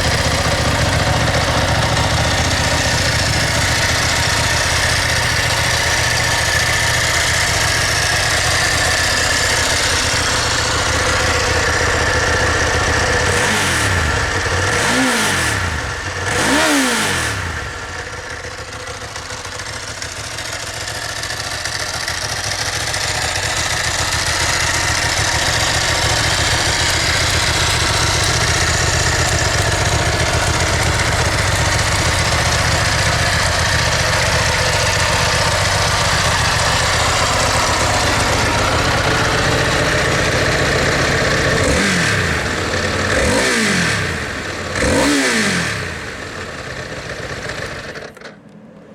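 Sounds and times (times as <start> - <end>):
engine throttle blips: 0.0 - 18.2, 23.0 - 48.3
motorcycle engine idling: 0.0 - 48.9.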